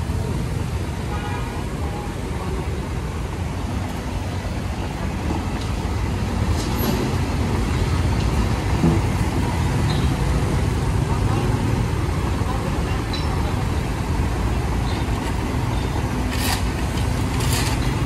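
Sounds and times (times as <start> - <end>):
heavy diesel machinery rumble: 0.0 - 18.0.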